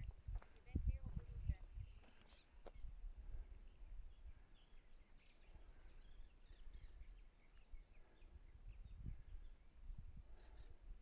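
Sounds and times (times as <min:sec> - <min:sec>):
faint bird chirps: 0:01.8 - 0:10.9.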